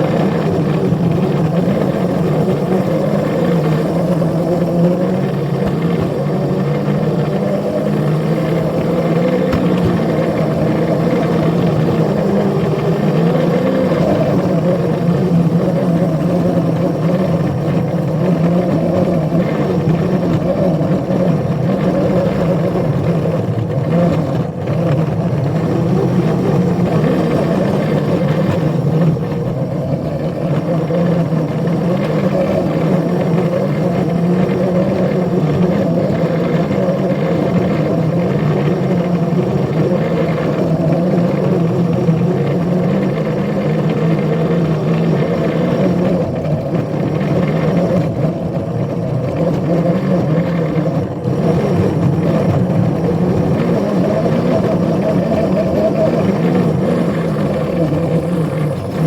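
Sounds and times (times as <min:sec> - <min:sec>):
locomotive engine droning: 0:00.0 - 0:59.0.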